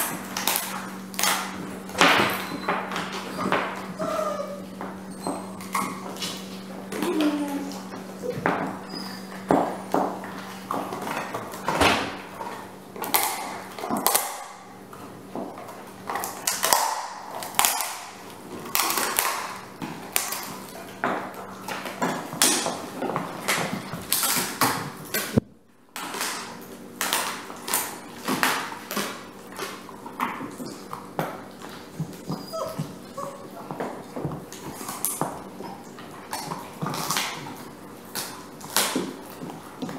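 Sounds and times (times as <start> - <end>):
dog gnawing a bone: 0.0 - 39.9.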